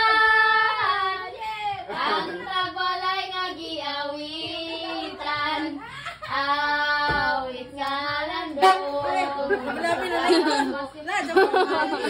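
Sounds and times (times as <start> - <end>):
high voices singing: 0.0 - 12.0.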